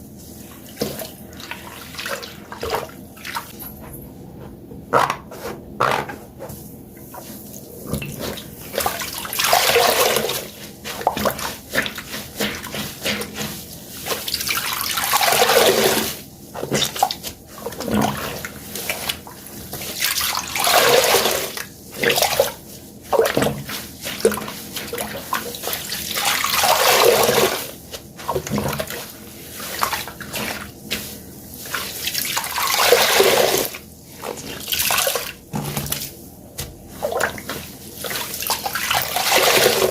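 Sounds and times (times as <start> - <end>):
water gushing from squeezed sponge: 7.0 - 36.1, 36.9 - 39.9.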